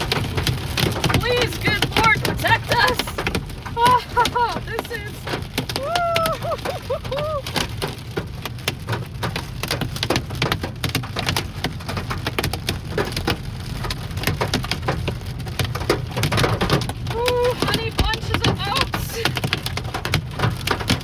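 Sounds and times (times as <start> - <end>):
hail hammering a car roof: 0.0 - 21.0
low road rumble: 0.0 - 21.0.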